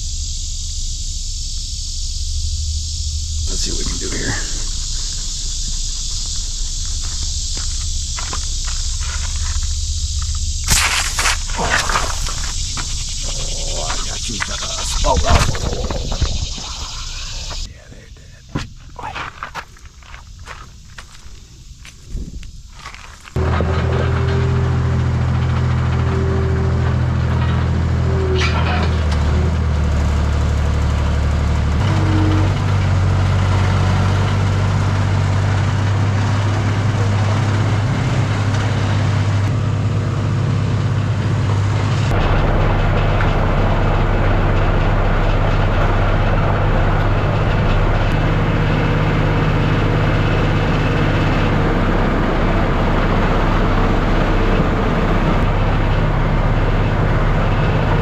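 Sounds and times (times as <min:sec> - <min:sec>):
skid steer engine running: 0:00.0 - 0:17.7, 0:22.7 - 0:58.0.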